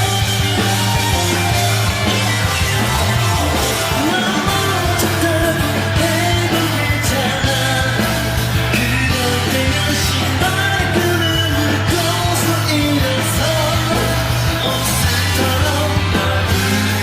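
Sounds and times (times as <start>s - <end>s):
live band playing rock music: 0.0s - 17.0s
person singing: 2.6s - 17.0s.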